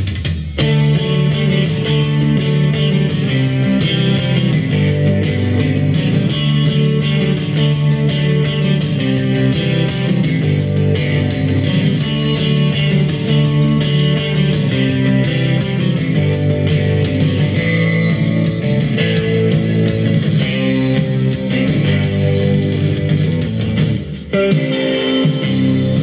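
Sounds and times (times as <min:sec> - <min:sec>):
loud guitar music from speaker: 0:00.0 - 0:26.0.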